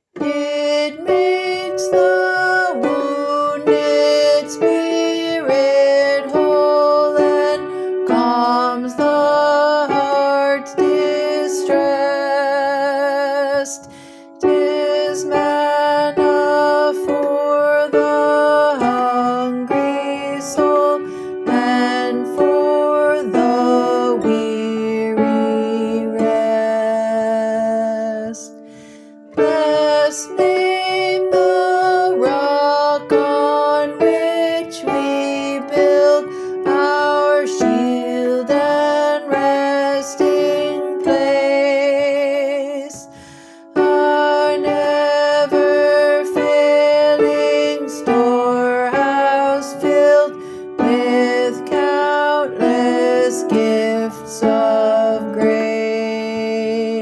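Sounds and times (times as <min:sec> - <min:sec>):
hymn tune played in chords: 0:00.0 - 0:57.0.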